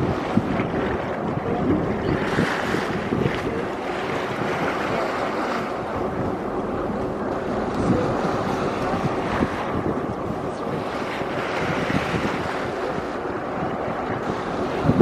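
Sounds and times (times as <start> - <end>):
boat engine underway: 0.0 - 15.0
water against boat: 0.0 - 15.0
wind buffeting microphone: 0.0 - 15.0.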